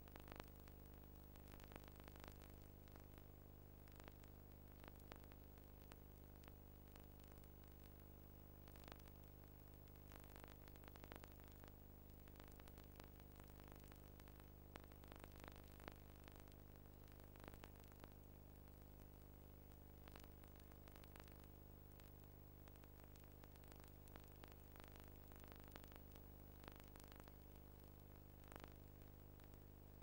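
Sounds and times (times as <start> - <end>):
faint clicks and crackles: 0.0 - 30.0
faint electrical hum: 0.0 - 30.0.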